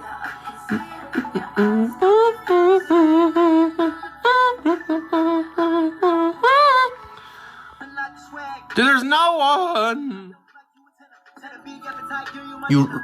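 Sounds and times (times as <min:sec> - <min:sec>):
pop song with singing voice: 0:00.0 - 0:13.0.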